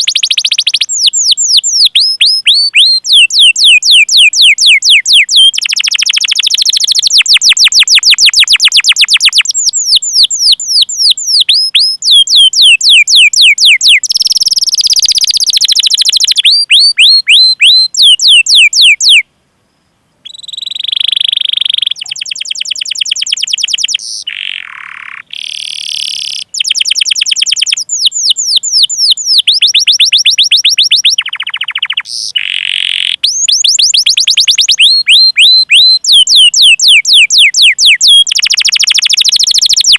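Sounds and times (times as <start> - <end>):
canary singing: 0.0 - 19.3, 20.2 - 39.9.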